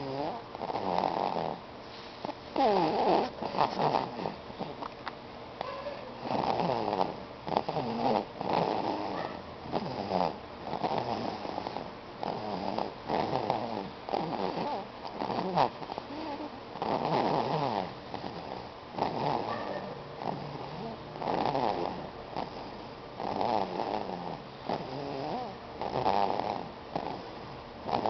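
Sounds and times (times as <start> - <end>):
baby snoring: 0.0 - 1.6, 2.2 - 4.9, 5.6 - 19.6, 20.2 - 28.0.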